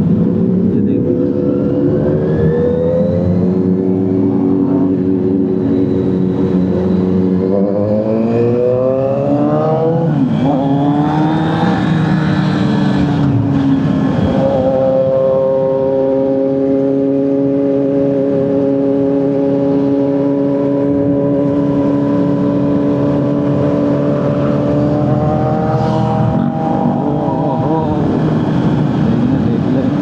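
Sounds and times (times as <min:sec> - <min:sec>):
motorcycle engine at high revs: 0:00.0 - 0:30.0.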